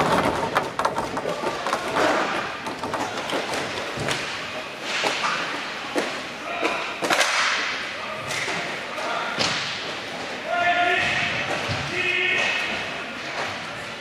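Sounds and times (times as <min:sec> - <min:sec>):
hockey sticks and puck clacking: 0:00.0 - 0:13.9
echoing hall ambience: 0:00.0 - 0:14.0.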